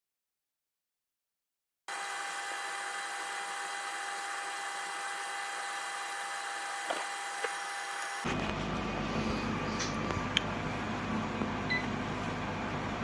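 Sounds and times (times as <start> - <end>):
vacuum pumps whirring hiss: 1.9 - 13.0.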